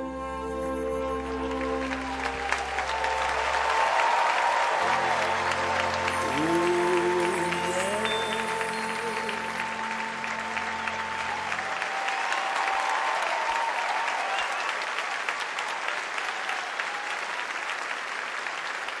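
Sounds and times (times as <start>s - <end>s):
audience applauding: 1.0s - 19.0s.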